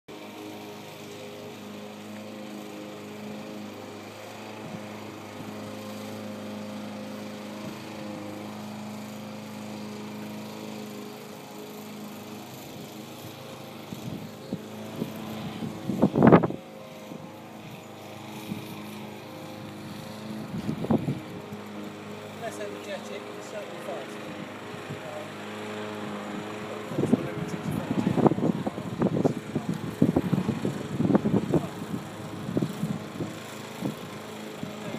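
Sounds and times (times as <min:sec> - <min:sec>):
electric motor humming: 0:00.2 - 0:34.9.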